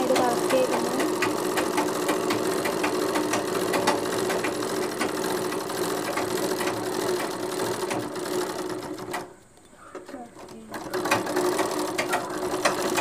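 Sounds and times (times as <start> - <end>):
overlock sewing machine running: 0.0 - 9.4, 10.0 - 13.0.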